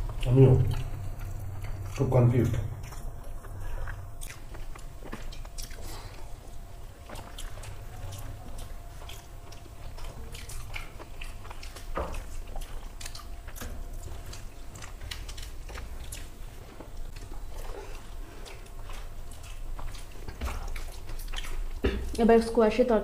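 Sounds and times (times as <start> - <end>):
people chewing with mouth smacks: 0.0 - 23.0.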